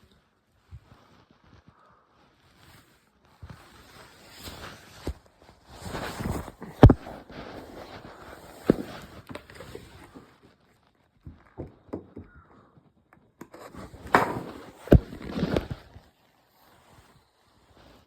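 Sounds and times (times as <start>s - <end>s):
rustling: 0.1s - 11.6s, 13.4s - 18.0s.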